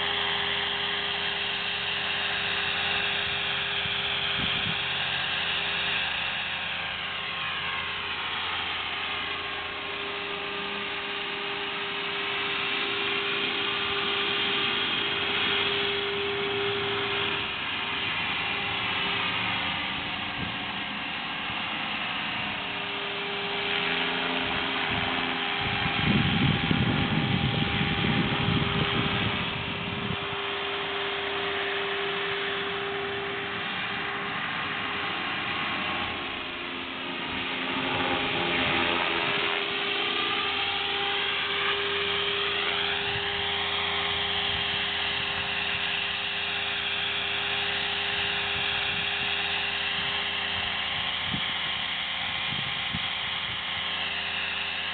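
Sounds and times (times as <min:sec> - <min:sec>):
rc helicopter rotor whine: 0:00.0 - 0:54.9
low rumble: 0:00.1 - 0:49.2.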